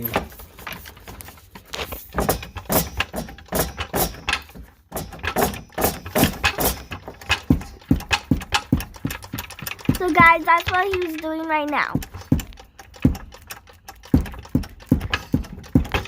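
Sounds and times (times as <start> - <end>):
floor jack clicking and clunking: 0.0 - 16.0.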